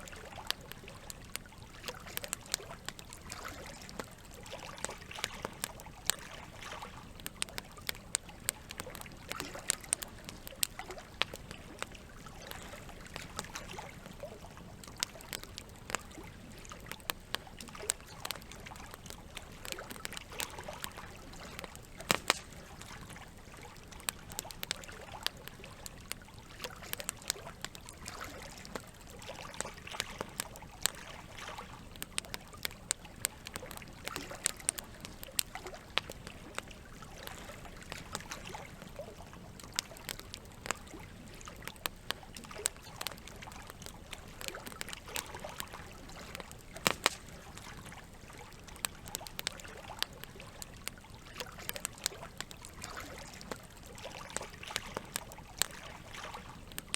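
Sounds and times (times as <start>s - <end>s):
campfire crackling: 0.0s - 56.9s
fire popping: 0.0s - 56.9s
running water trickling: 0.0s - 56.9s.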